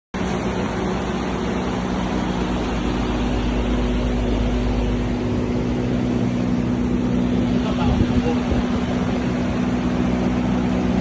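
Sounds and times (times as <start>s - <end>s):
motor humming: 0.2s - 11.0s.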